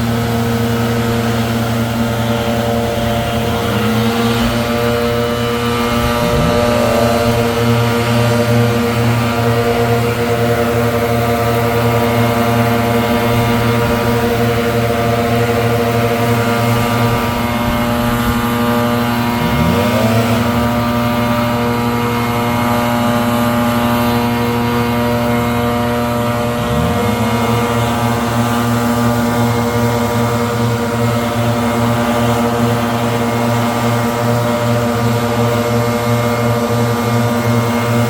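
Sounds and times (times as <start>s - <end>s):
leaf blower engine running: 0.0s - 38.0s.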